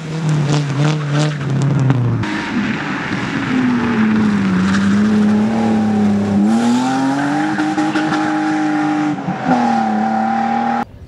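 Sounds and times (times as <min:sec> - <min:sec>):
rally car engine revving: 0:00.0 - 0:10.9.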